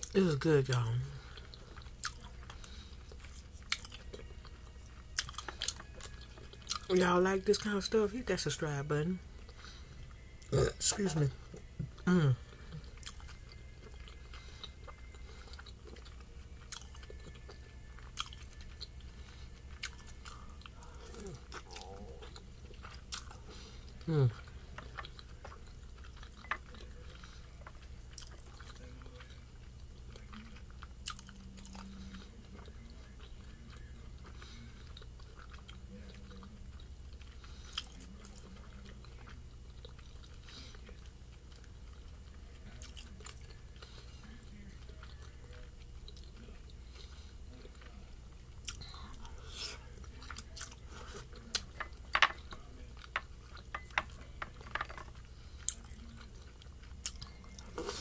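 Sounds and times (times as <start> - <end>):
person chewing: 0.0 - 7.6, 9.4 - 58.0
faint low hum: 0.0 - 58.0.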